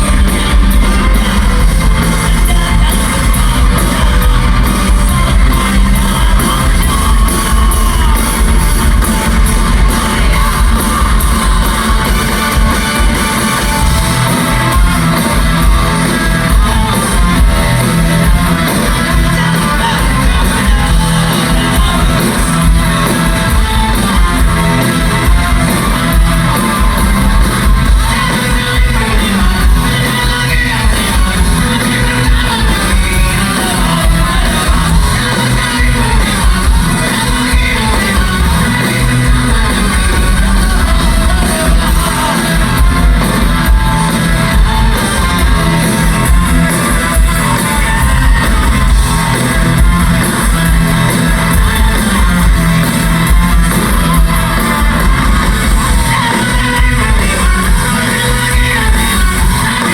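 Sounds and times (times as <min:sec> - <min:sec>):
fast pounding drums: 0:00.0 - 0:59.9
rock band playing loud: 0:00.0 - 0:59.9.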